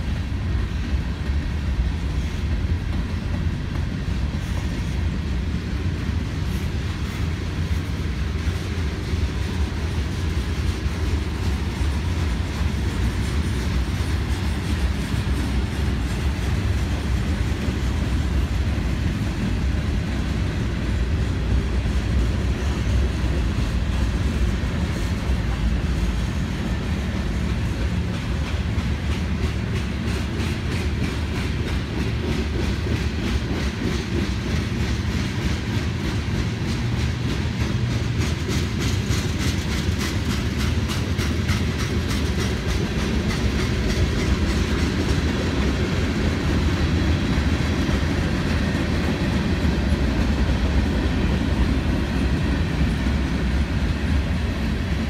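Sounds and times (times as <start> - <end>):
freight train rumbling past: 0.0 - 55.0
wheels clicking over rail joints: 0.0 - 55.0.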